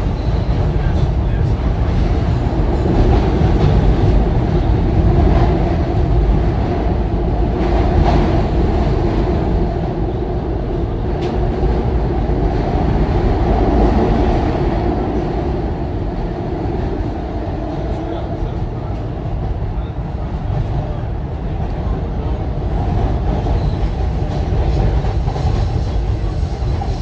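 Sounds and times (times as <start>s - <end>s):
subway train rumble and rail noise: 0.0s - 27.0s.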